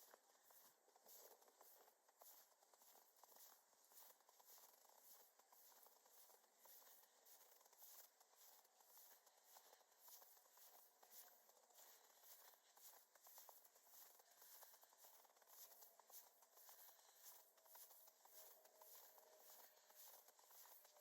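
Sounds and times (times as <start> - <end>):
footsteps crunching in snow: 0.0 - 21.0.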